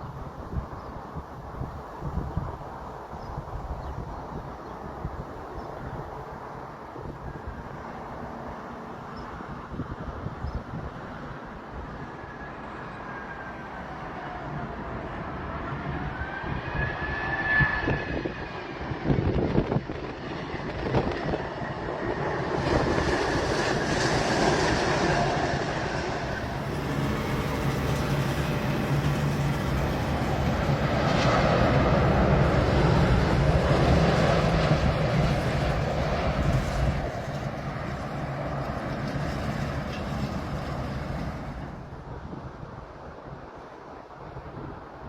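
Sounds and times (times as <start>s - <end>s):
jet engines rumbling: 0.0s - 45.0s.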